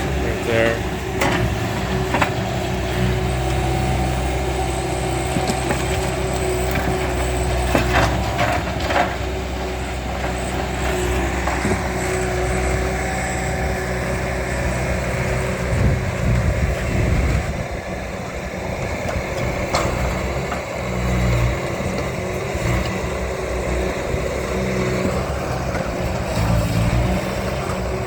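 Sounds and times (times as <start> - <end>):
heavy equipment engine running: 0.0 - 28.0.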